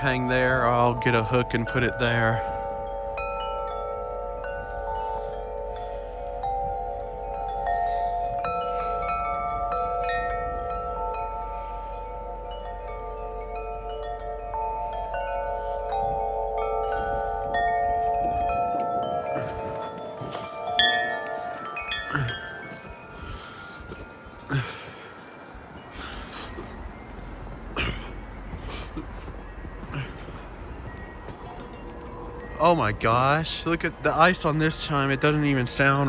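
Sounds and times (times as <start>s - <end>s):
tubular wind chimes ringing: 0.0s - 36.0s
wind rumbling on microphone: 0.0s - 36.0s.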